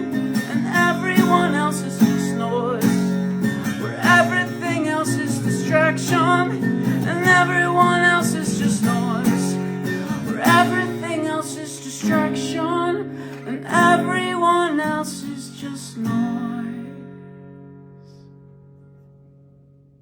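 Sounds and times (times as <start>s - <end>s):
person singing: 0.0s - 17.1s
strummed acoustic guitar: 0.0s - 20.0s.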